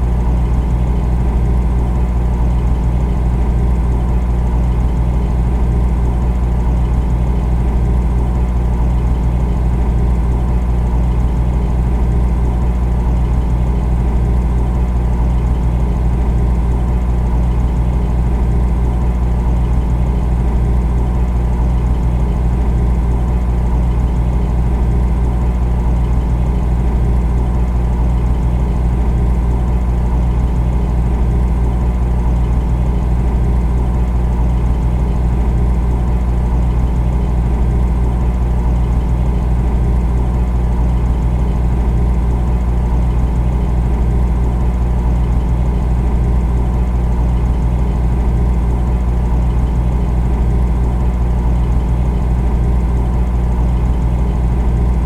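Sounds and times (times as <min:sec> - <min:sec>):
refrigerator compressor humming: 0:00.0 - 0:55.0.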